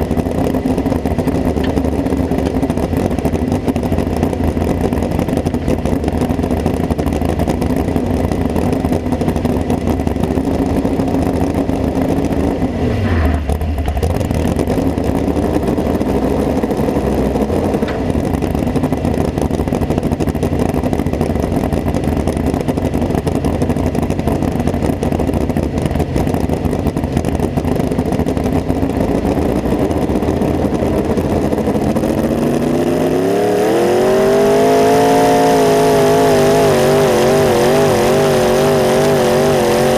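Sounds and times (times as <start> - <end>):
tractor engine idling and revving: 0.0 - 39.9.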